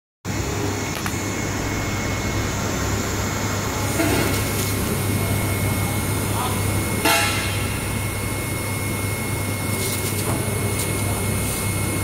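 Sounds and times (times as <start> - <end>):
low electrical hum: 0.3 - 12.0
production line machinery whirring: 0.3 - 12.0.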